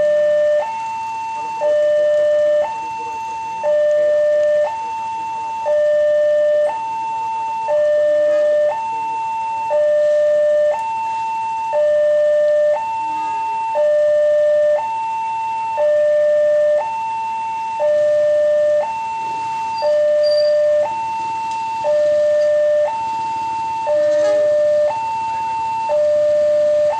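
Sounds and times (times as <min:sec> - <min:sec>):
two-tone crossing warning siren: 0:00.0 - 0:26.9.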